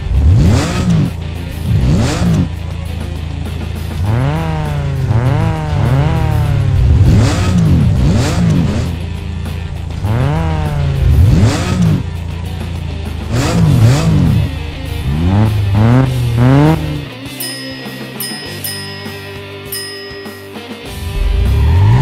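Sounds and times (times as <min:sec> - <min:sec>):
cartoon car engine revving: 0:00.0 - 0:17.4, 0:20.9 - 0:22.0
background music: 0:00.0 - 0:22.0.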